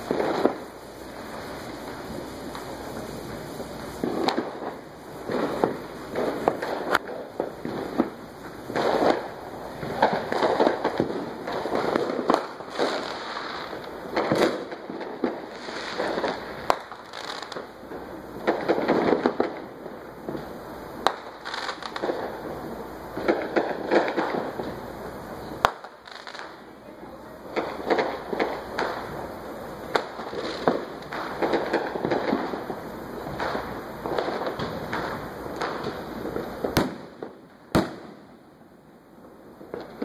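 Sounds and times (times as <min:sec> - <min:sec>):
fireworks bangs: 0:00.0 - 0:40.0
fireworks crackling: 0:00.0 - 0:40.0.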